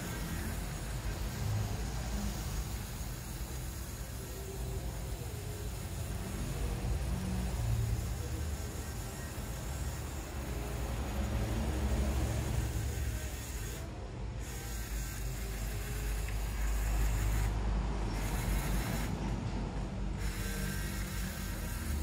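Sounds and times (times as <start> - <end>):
small motors whirring: 0.0 - 19.3, 20.1 - 22.0.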